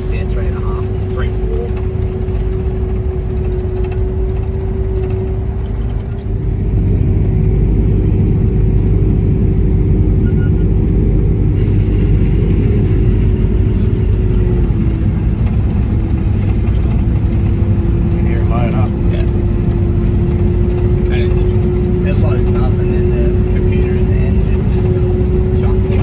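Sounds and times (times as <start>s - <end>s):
heavy diesel machinery running: 0.0s - 26.0s.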